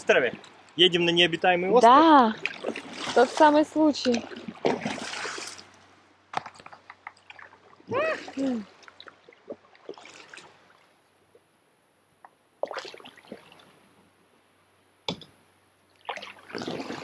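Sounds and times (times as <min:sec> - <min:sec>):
water splashing against boat: 0:00.0 - 0:11.5, 0:12.5 - 0:14.0, 0:15.9 - 0:17.0.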